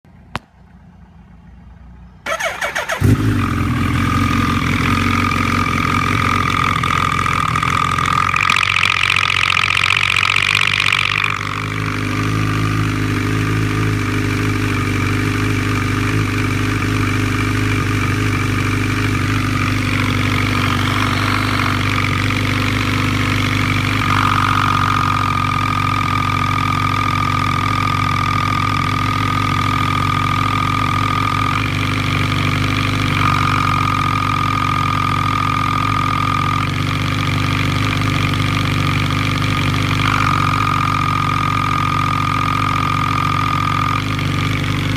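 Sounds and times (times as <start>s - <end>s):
motorcycle engine idling: 0.1s - 44.9s
motorcycle engine starting: 0.2s - 44.9s.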